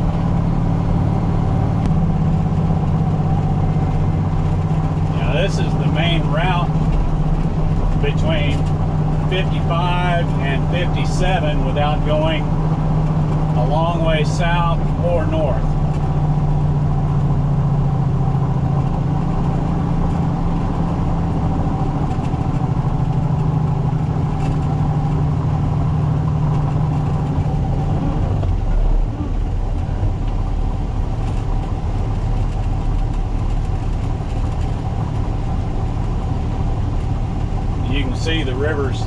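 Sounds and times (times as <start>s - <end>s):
diesel truck engine droning: 0.0s - 39.0s.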